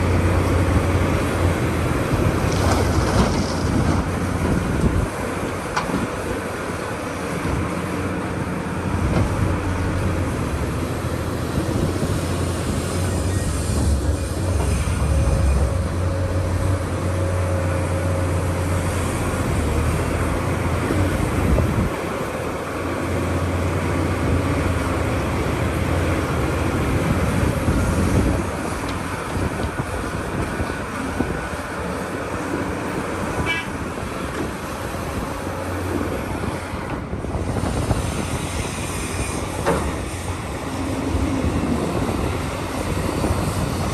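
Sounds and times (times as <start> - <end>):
excavator diesel engine rumble: 0.0 - 43.9.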